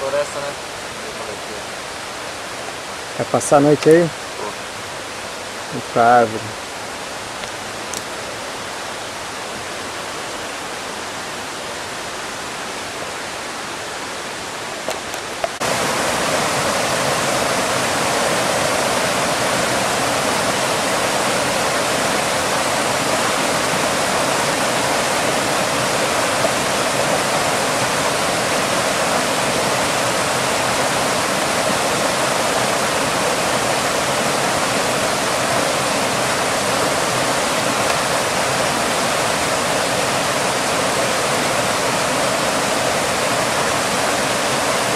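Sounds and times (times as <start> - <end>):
waterfall rushing into pool: 0.0 - 44.9.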